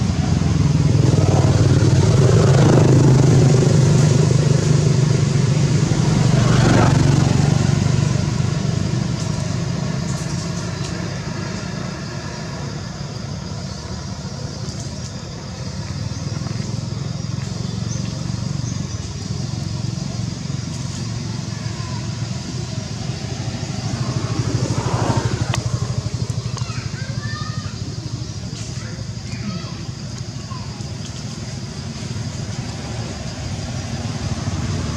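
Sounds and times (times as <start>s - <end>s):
engine running at low revs: 0.0s - 15.0s, 15.6s - 26.6s, 31.0s - 34.9s.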